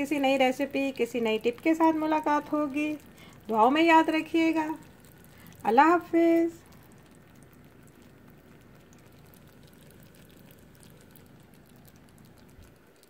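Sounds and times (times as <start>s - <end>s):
gravy popping and crackling: 0.0s - 13.0s.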